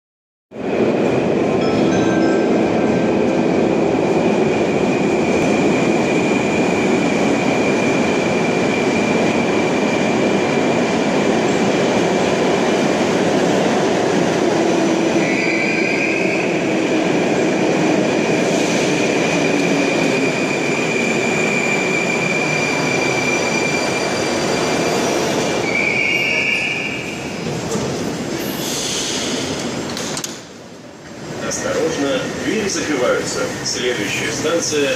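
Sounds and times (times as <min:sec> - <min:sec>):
metro train rumbling: 0:00.5 - 0:34.9.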